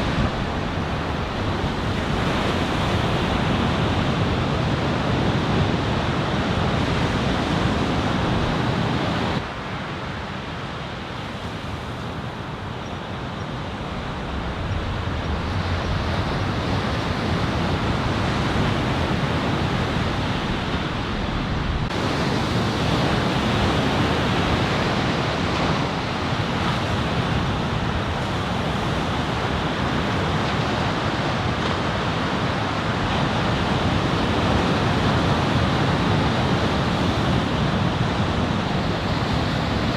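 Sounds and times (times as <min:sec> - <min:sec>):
wind buffeting microphone: 0:00.0 - 0:09.7, 0:11.4 - 0:39.9
ocean surf breaking: 0:00.0 - 0:39.9.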